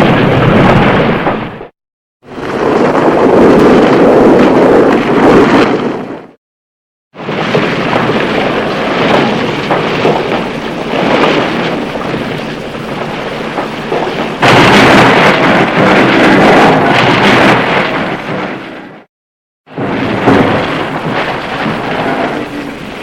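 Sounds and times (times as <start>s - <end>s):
loud rumbling crash: 0.0s - 1.7s, 2.3s - 6.4s, 7.2s - 19.1s, 19.7s - 23.0s.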